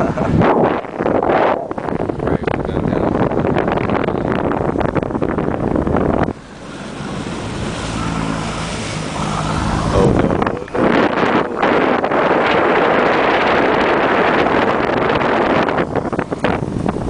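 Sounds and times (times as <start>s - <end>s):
motorboat engine hum: 0.0s - 17.0s
wind buffeting microphone: 0.0s - 17.0s.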